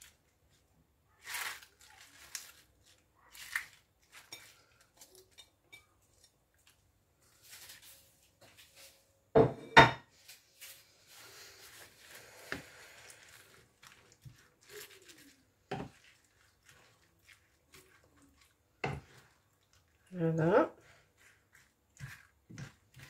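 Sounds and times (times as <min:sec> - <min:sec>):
wooden spoon stirring leaves in pan: 0:00.0 - 0:09.0, 0:10.1 - 0:23.0.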